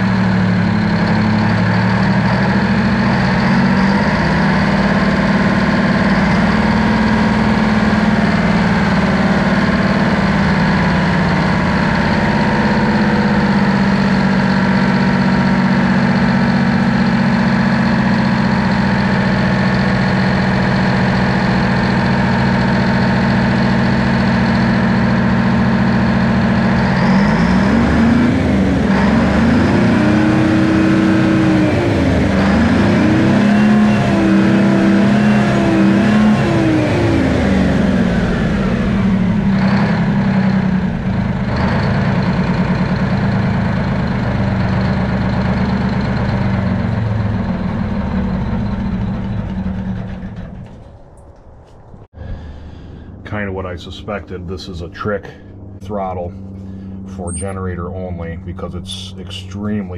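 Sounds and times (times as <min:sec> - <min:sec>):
diesel engine idling and revving: 0:00.0 - 0:59.9.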